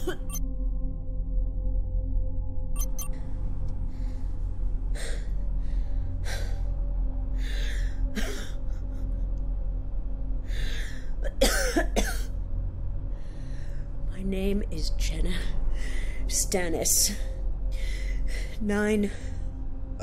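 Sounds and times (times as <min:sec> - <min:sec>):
low ominous music drone: 0:00.0 - 0:20.0.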